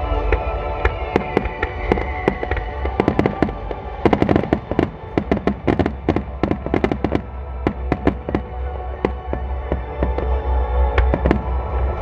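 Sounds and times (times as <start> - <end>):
fireworks bangs: 0.4 - 12.0.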